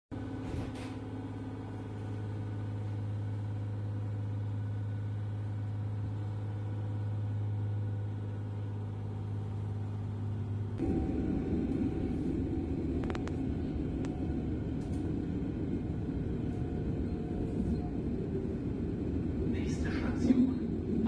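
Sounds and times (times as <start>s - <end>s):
train carriage hum and rumble: 0.1s - 21.0s.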